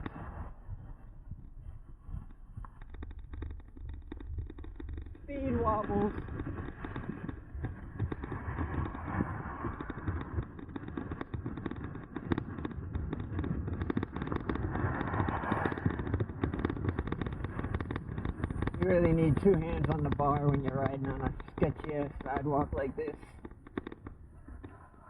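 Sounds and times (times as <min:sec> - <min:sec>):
bike rattling on rough pavement: 0:00.0 - 0:25.0
low rumble of tyres and air: 0:00.0 - 0:25.0.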